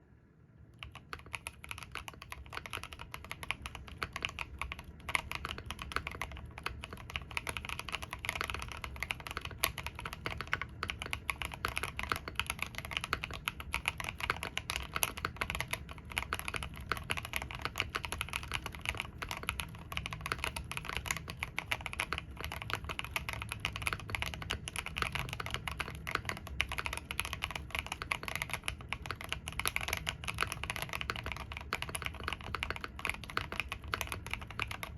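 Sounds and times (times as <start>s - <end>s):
mechanical keyboard typing: 0.8s - 34.9s.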